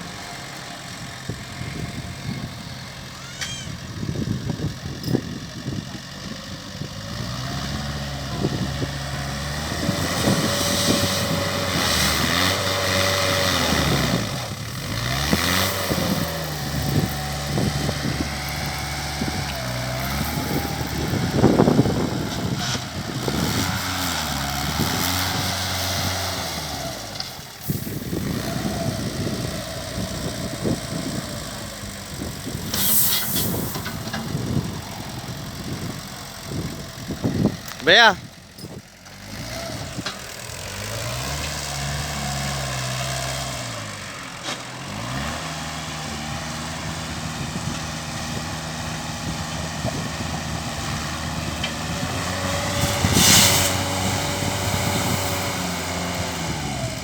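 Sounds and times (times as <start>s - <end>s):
concrete mixer engine running: 0.0s - 57.0s.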